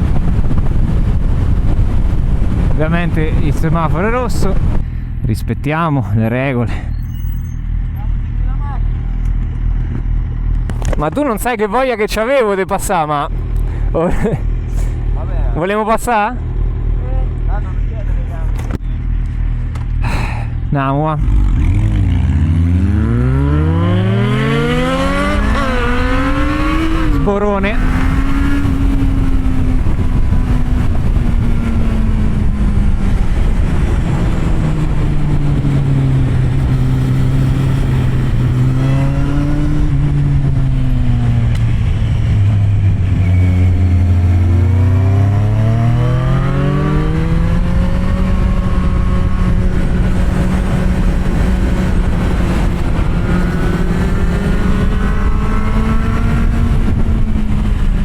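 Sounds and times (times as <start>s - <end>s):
motorcycle engine accelerating: 7.1s - 58.0s.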